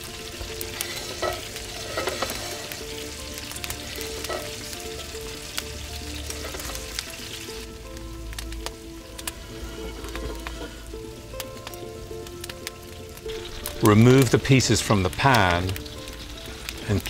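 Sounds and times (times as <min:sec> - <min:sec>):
chicken sizzling in hot fat: 0:00.0 - 0:17.0.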